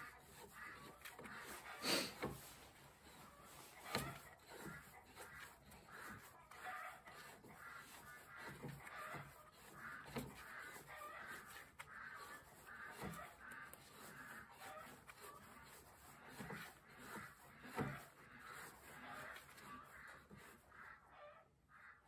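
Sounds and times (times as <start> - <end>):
steering rack creaking: 0.0 - 19.8.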